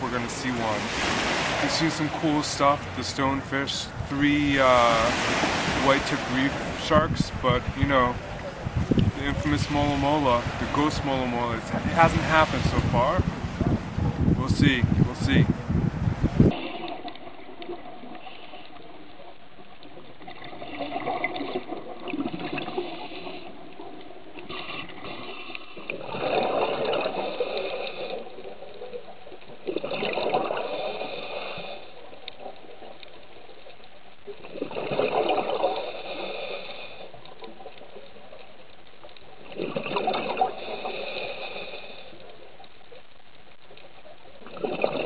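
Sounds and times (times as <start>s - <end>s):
underwater exhaled air bubbling: 0.0s - 45.0s.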